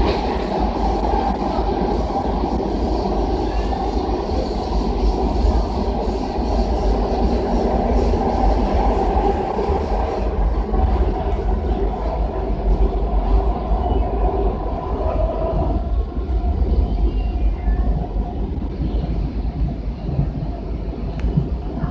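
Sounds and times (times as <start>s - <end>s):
train wheels rumbling: 0.0s - 21.9s.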